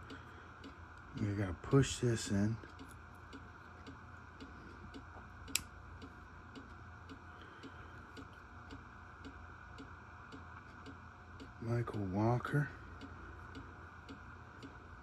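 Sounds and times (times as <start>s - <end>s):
low room hum: 0.0s - 15.0s
clock ticking: 2.6s - 15.0s.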